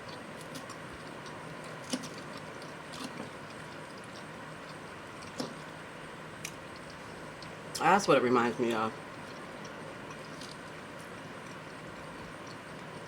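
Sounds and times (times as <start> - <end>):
crunchy food chewing: 0.0 - 5.8, 6.4 - 7.8, 8.6 - 13.0.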